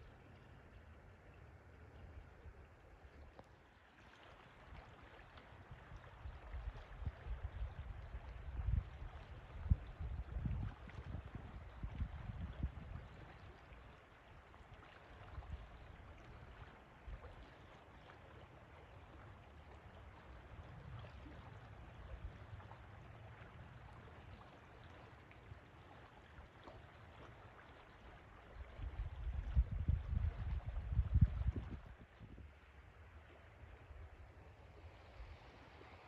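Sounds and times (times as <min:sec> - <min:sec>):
river water flowing: 0:00.0 - 0:36.0.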